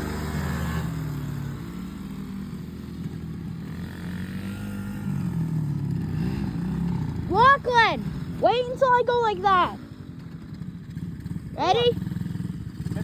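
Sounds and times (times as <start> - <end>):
small motorbike engines idling: 0.0 - 13.0.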